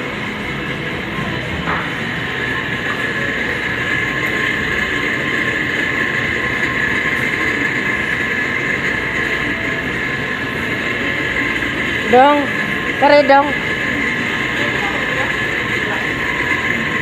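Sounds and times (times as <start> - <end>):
refrigeration equipment droning: 0.0 - 17.0.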